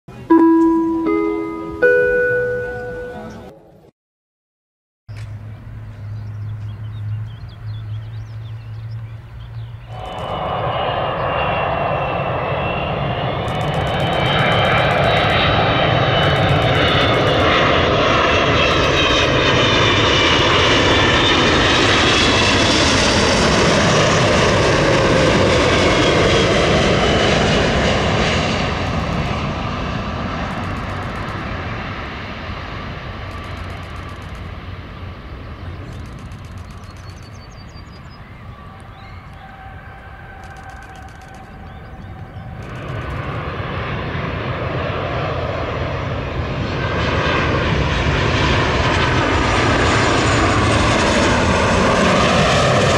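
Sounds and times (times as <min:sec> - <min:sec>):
jet airliner flying overhead: 0:05.2 - 0:52.9.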